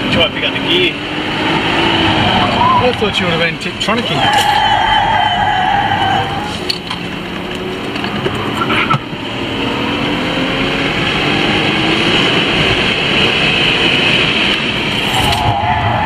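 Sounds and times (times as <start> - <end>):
race car engine accelerating: 0.0 - 16.0
road and wind rush: 0.0 - 16.0.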